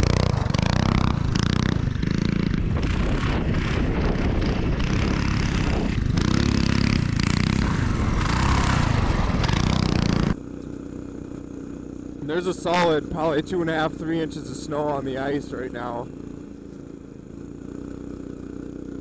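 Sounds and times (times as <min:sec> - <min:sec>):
minibike engine revving: 0:00.0 - 0:19.0.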